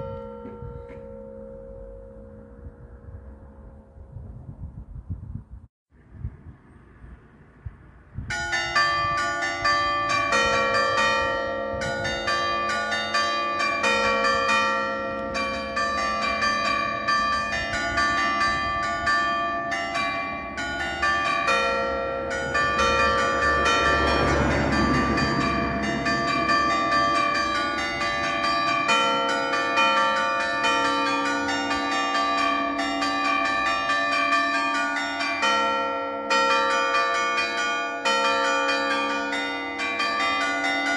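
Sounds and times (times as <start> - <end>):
church bells melody: 0.0 - 4.0, 8.3 - 40.9.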